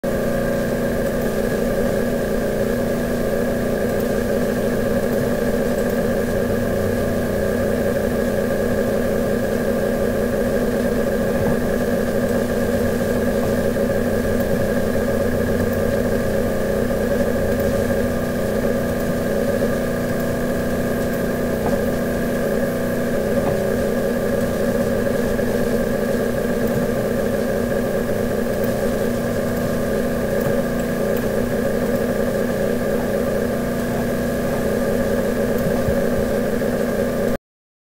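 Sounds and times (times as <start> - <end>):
mechanical drone: 0.0 - 37.4.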